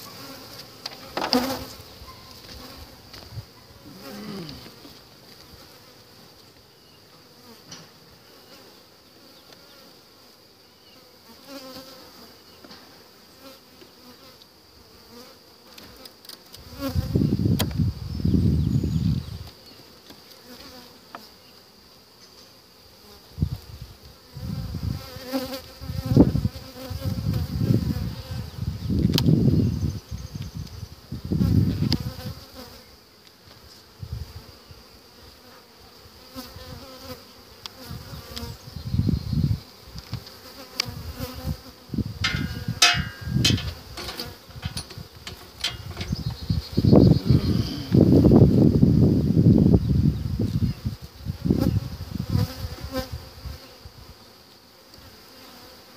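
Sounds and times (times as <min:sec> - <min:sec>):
honeybees buzzing: 0:00.0 - 0:55.9.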